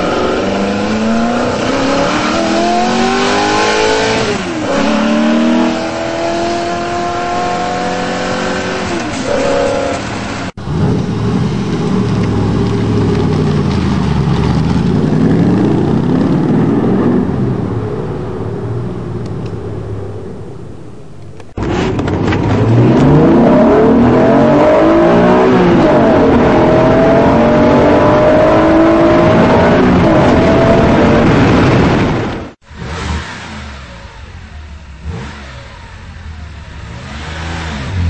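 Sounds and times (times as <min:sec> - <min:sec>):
car engine revving and accelerating: 0:00.0 - 0:19.1, 0:21.6 - 0:38.0
car engine at high revs: 0:00.0 - 0:38.0.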